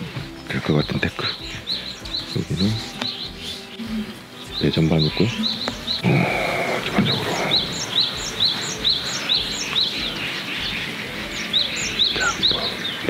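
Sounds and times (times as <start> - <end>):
bird chirping: 0.0 - 13.0
outdoor background noise: 0.0 - 13.0.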